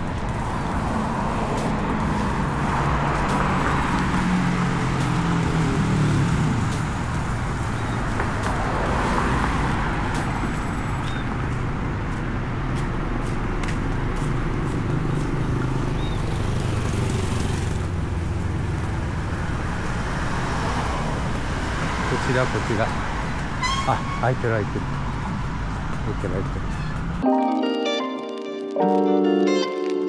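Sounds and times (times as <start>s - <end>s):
vehicle engines humming: 0.0s - 27.2s
road noise: 0.0s - 30.0s.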